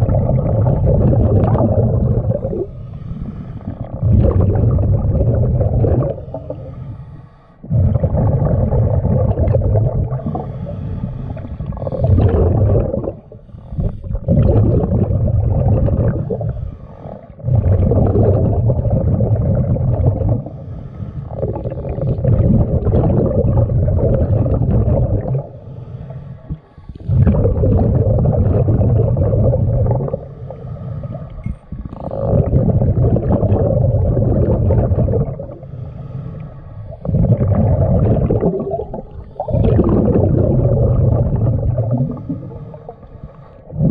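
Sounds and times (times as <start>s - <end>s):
bubbling exhaled air: 0.0s - 43.9s
diver breathing underwater: 0.0s - 43.9s.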